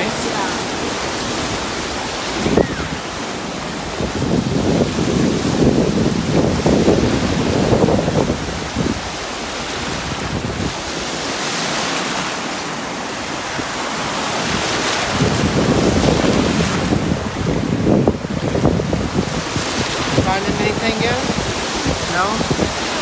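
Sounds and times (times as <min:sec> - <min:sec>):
wind buffeting microphone: 0:00.0 - 0:11.8, 0:12.4 - 0:23.0
ocean waves breaking on shore: 0:00.0 - 0:23.0.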